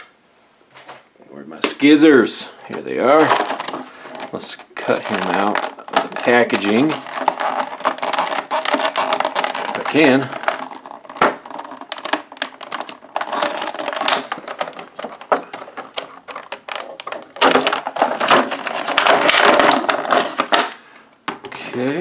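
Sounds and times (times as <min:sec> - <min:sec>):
plastic packaging crackling: 0:01.5 - 0:21.7.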